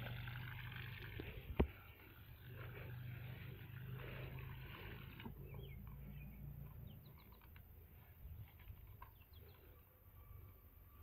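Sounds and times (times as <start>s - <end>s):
low steady hum: 0.0s - 11.0s
bird chirps: 2.0s - 11.0s.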